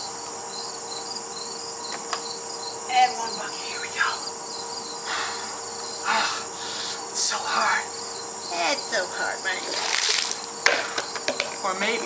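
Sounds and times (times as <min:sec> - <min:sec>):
crickets chirping: 0:00.0 - 0:12.0
faint steady hum: 0:00.0 - 0:12.0.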